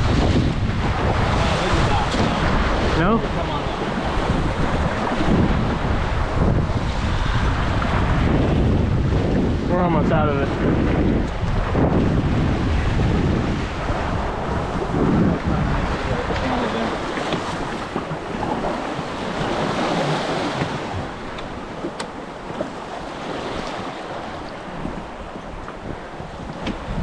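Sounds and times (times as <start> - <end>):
water splashing along hulls: 0.0 - 27.0
wind buffeting microphone: 0.0 - 27.0.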